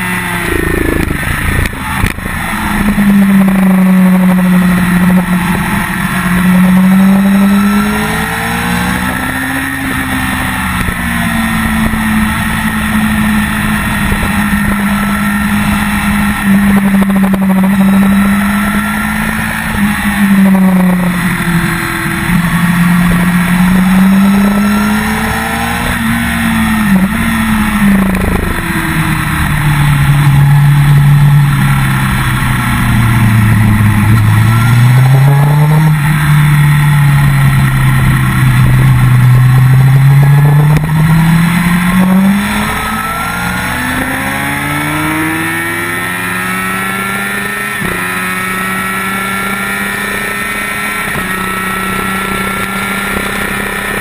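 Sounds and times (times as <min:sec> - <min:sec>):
motorcycle engine at speed: 0:00.0 - 0:54.0.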